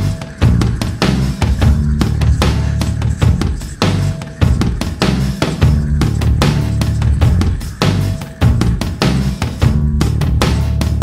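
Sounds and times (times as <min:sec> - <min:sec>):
heavy bass: 0:00.0 - 0:11.0
loud music with drum beat: 0:00.0 - 0:11.0.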